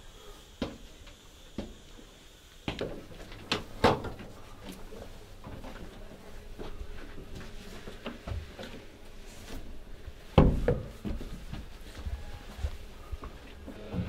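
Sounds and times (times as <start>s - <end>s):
footsteps climbing stairs: 2.7s - 14.0s.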